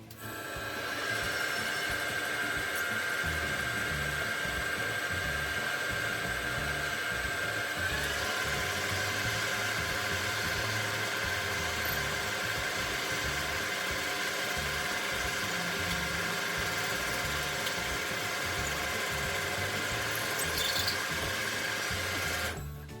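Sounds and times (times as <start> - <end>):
metal lathe running: 0.0 - 22.6.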